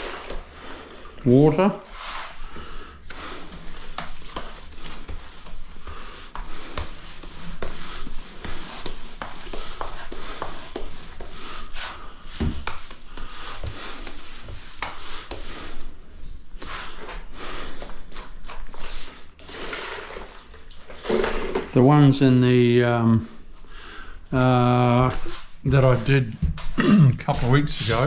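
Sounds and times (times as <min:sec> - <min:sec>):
sponge scrubbing tiles: 0:00.0 - 0:21.9, 0:23.3 - 0:28.0.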